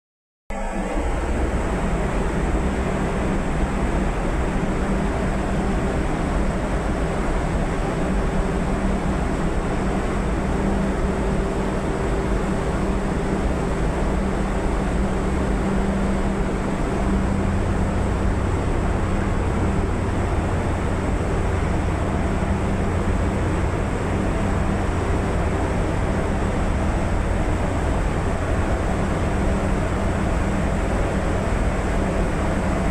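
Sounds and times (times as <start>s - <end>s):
ship engine drone: 0.5s - 32.9s.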